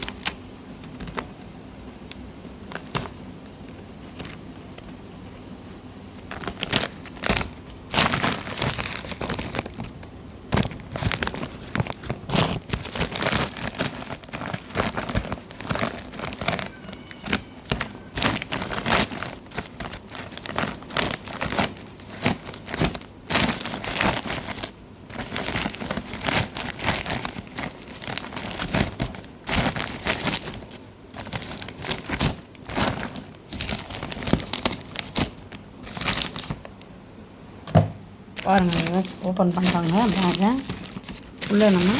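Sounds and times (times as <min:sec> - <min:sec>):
plastic packaging crinkling and tearing: 0:00.0 - 0:01.3, 0:02.1 - 0:03.3, 0:06.2 - 0:36.8, 0:38.4 - 0:41.9.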